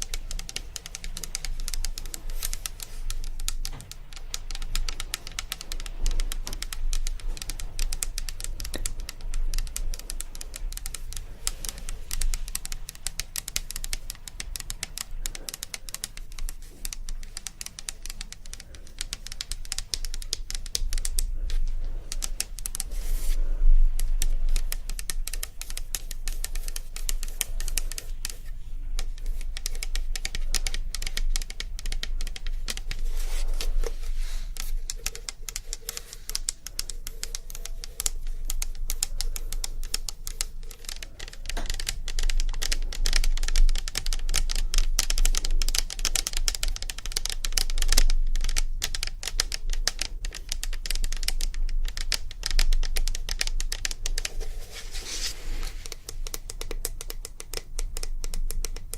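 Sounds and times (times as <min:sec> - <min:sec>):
rapid tapping clicks: 0:00.0 - 0:58.9.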